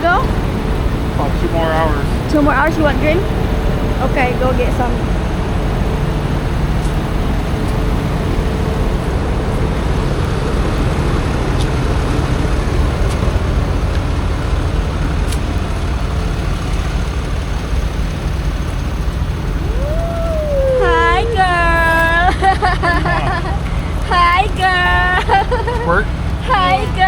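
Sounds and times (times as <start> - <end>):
faint steady hum: 0.0 - 27.0
traffic rumble: 0.0 - 27.0.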